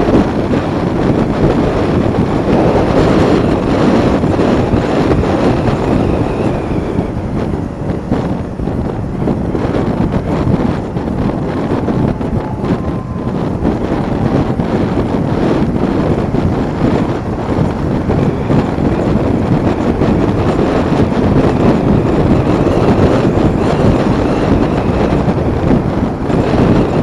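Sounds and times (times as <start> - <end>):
motorcycle engine: 0.0 - 27.0
road noise: 0.0 - 27.0
wind rushing over microphone: 0.0 - 27.0.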